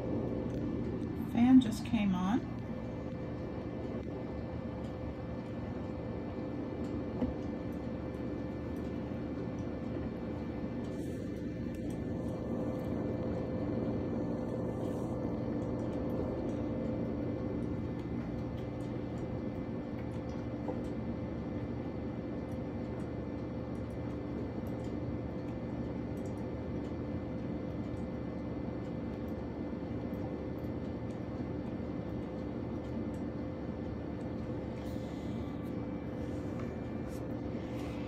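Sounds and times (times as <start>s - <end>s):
cooling fan whirring: 0.0s - 38.0s.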